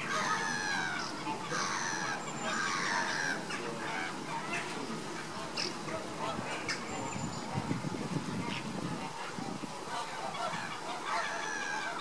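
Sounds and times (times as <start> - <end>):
flamingos honking: 0.0 - 12.0.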